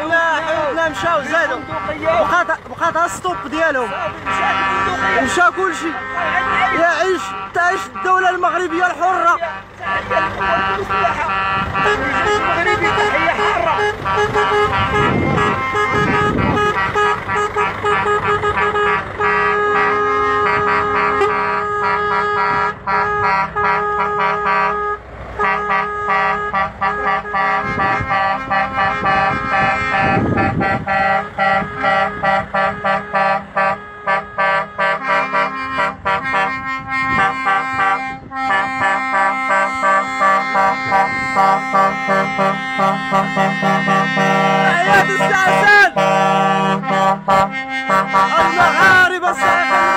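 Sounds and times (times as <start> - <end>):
lorry air horns honking: 0.0 - 49.9
moving vehicle noise: 0.0 - 49.9.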